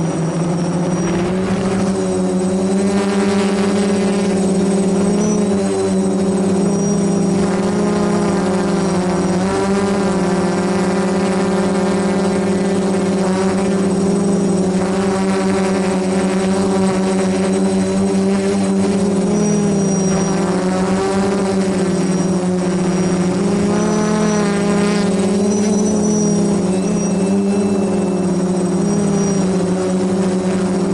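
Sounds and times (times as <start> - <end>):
drone motors buzzing: 0.0 - 30.9.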